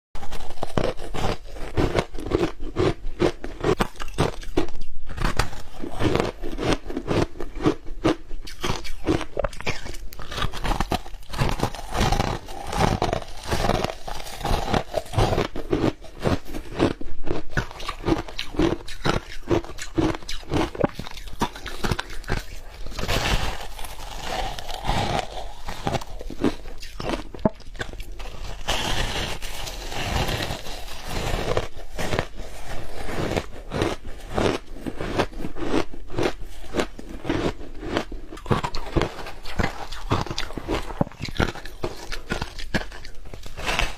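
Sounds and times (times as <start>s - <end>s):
crunching and chewing shaved ice: 0.2s - 43.9s.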